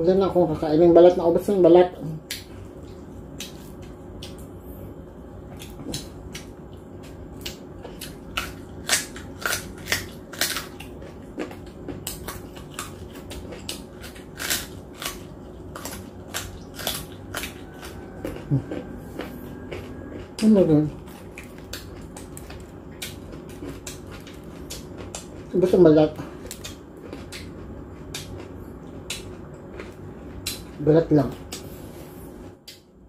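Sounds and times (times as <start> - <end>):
crunchy chewing: 2.2 - 31.8.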